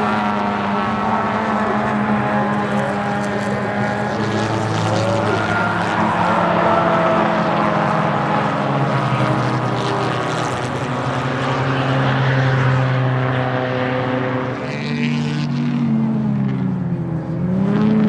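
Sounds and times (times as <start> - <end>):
race car engine at high revs: 0.0 - 18.0.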